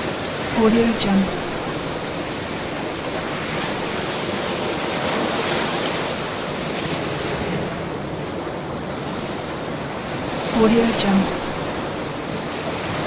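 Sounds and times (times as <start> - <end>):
ocean waves washing in: 0.0 - 13.0.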